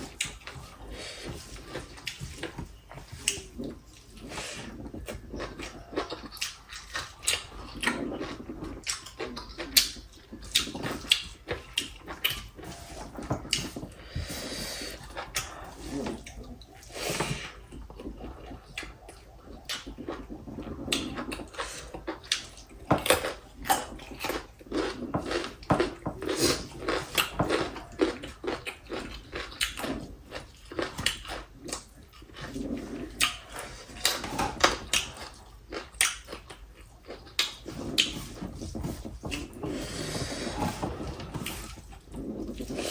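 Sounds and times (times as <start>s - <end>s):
chewing and mouth smacks: 0.0s - 42.9s
slurping soup: 0.0s - 42.9s.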